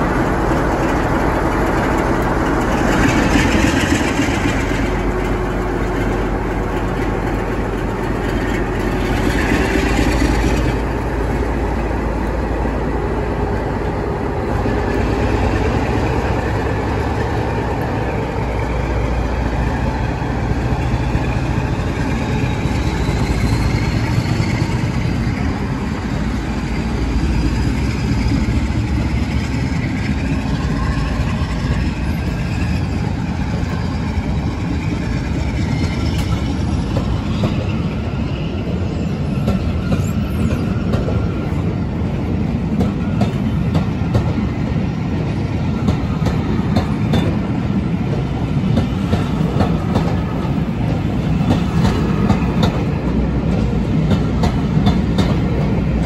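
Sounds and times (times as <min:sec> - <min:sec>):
diesel locomotive passing: 0:00.0 - 0:56.0
wheels rumbling on rails: 0:00.0 - 0:56.0.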